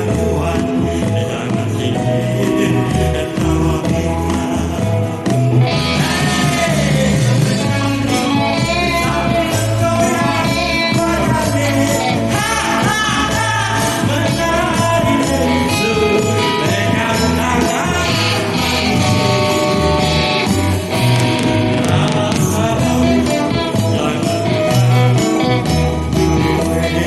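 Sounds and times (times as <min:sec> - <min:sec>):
guitar: 0:00.0 - 0:27.0
live band playing pop song: 0:00.0 - 0:27.0.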